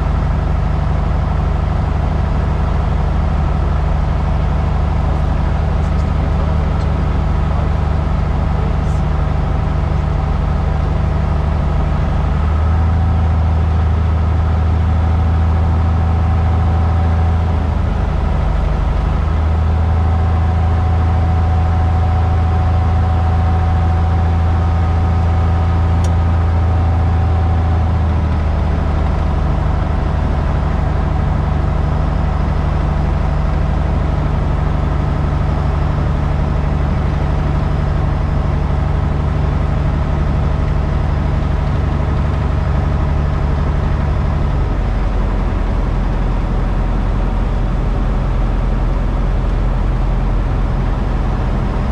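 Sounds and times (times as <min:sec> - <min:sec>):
aircraft engine droning: 0:00.0 - 0:51.9.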